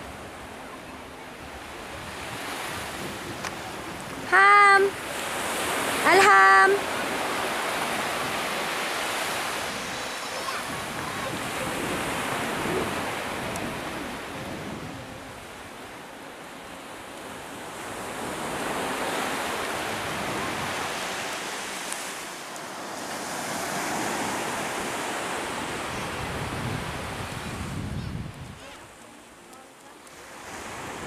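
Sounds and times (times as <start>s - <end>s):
sea waves washing on beach: 0.0s - 31.0s.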